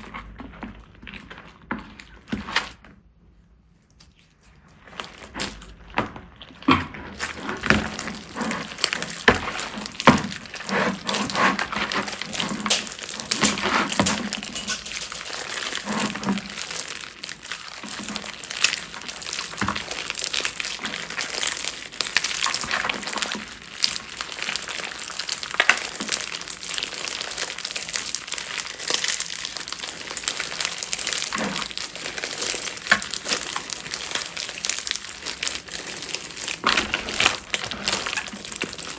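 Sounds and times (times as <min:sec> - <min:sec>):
slime crackling and crinkling: 0:00.0 - 0:38.9.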